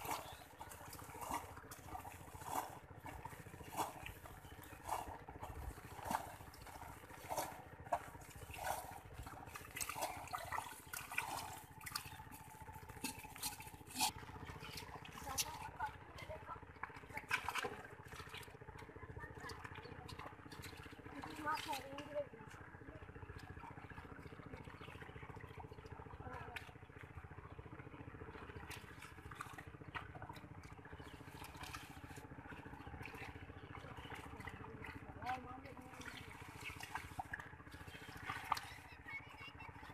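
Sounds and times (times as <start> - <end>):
small engine puttering: 0.0 - 39.9.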